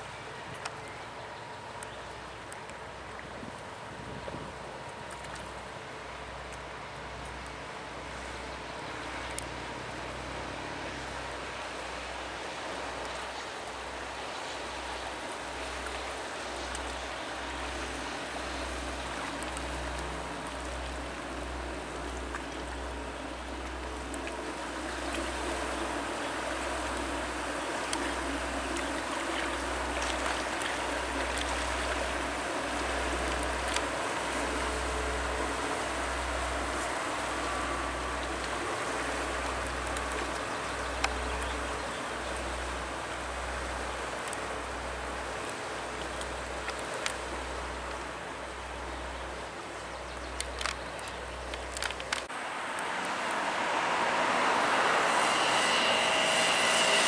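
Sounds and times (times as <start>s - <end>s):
barge engine drone: 0.0s - 57.0s
water rushing from bow wave: 0.0s - 57.0s.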